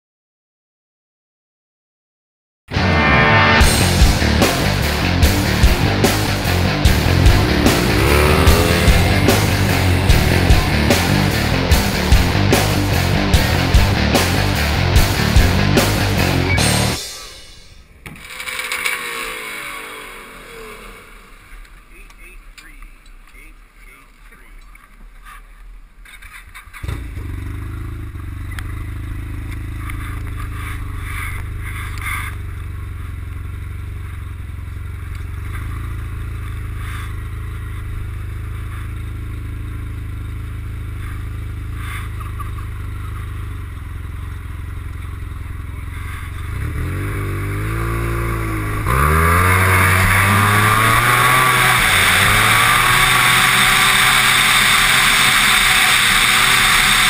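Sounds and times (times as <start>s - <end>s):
snowmobile engine revving and roaring: 2.8s - 22.4s, 26.8s - 57.0s.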